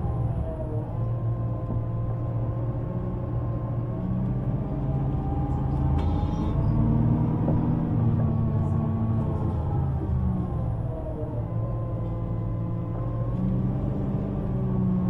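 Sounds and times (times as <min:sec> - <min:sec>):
bus engine rumbling and humming: 0:00.0 - 0:15.0.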